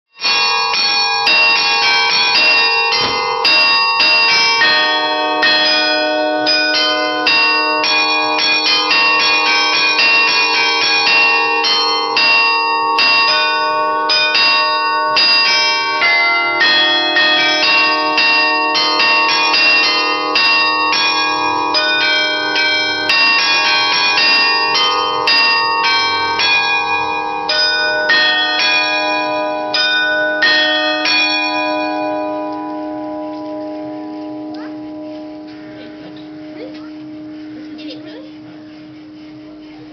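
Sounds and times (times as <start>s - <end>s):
carillon bells playing a tune: 0.1s - 39.9s.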